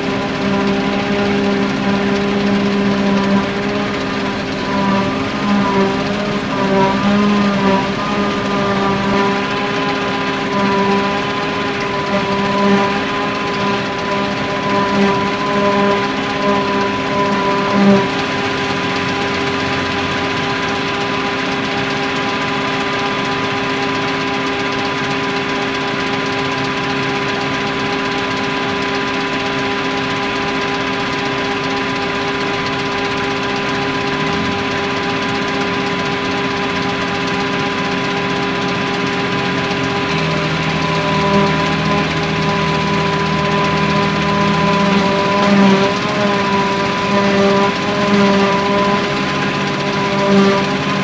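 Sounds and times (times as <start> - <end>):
drone propellers whining: 0.0 - 51.0.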